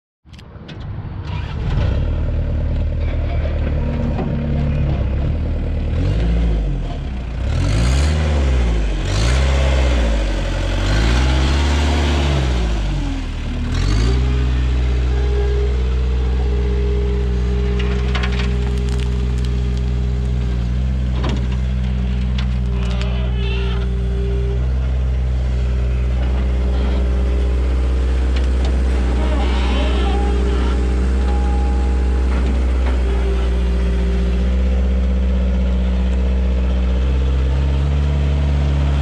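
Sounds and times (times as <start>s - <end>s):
diesel engine running: 1.4s - 39.0s.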